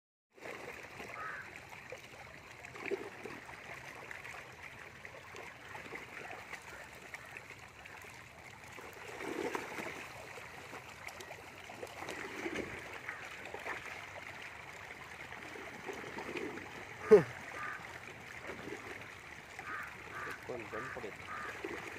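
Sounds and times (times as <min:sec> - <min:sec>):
fish splashing and gurgling: 0:00.3 - 0:21.9.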